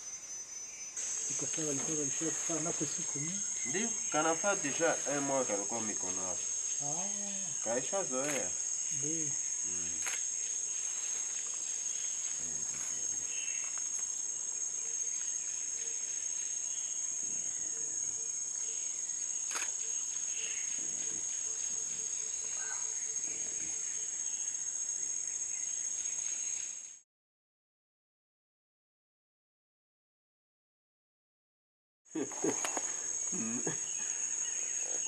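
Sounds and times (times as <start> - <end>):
insects chirring: 0.0 - 27.0, 32.1 - 35.0.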